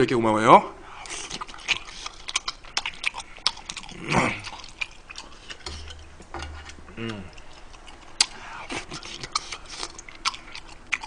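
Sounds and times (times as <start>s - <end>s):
man chewing noodles: 0.9s - 11.0s.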